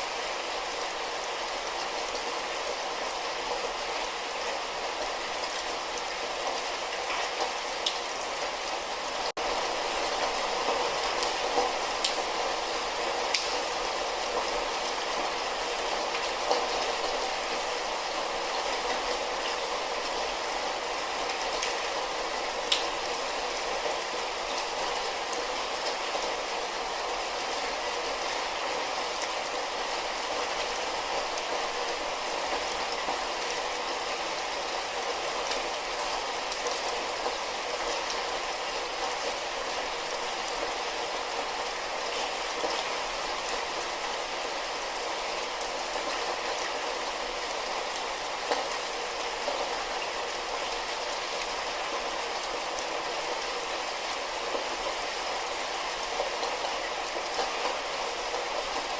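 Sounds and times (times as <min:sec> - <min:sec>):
light rain falling: 0:00.0 - 0:58.9.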